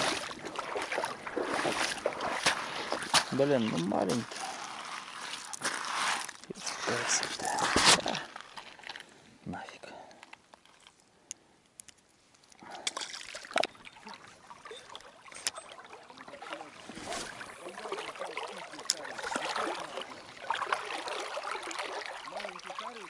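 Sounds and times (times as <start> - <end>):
river water splashing: 0.0 - 9.0, 12.6 - 23.0.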